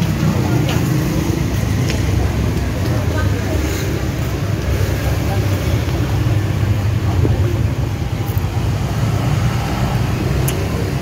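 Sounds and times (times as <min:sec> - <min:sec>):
cars and motorbikes passing: 0:00.0 - 0:11.0.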